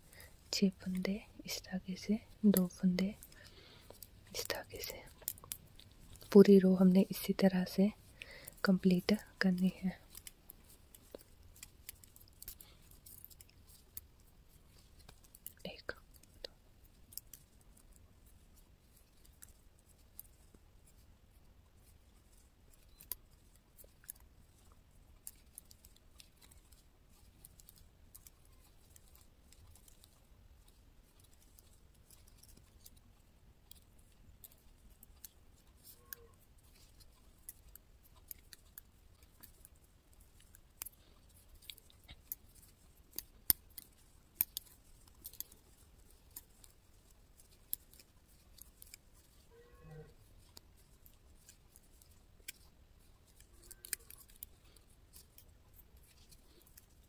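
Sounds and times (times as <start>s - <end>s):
metal knitting needles clicking: 0.2s - 21.1s, 21.8s - 49.5s, 50.1s - 57.0s.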